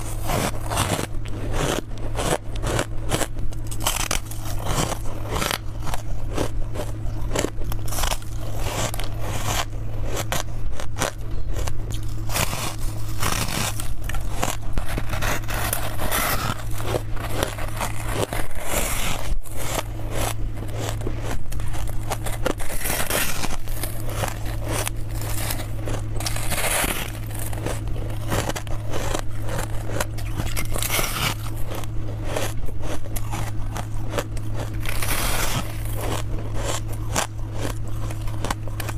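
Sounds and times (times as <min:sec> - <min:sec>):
crunching freezer frost: 0:00.0 - 0:38.9
steady low hum: 0:00.0 - 0:38.9.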